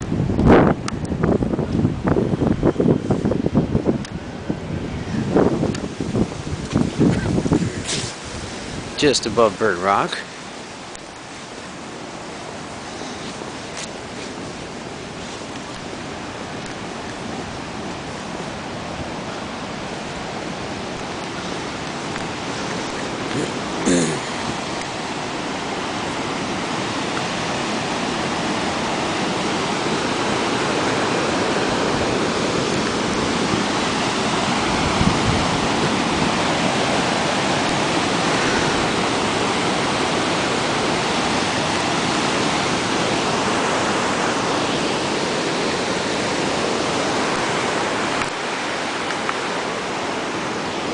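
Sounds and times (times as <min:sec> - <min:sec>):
ocean waves breaking: 0:00.0 - 0:50.9.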